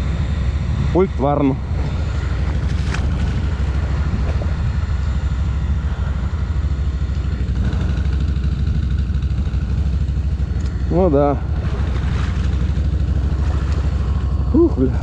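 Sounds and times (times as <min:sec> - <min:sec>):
engine idling low rumble: 0:00.0 - 0:15.0.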